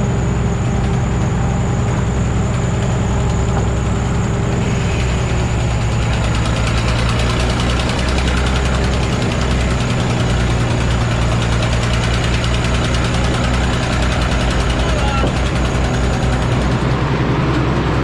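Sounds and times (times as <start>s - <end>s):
engine running: 0.0s - 18.0s
rough noisy sound: 0.0s - 18.0s.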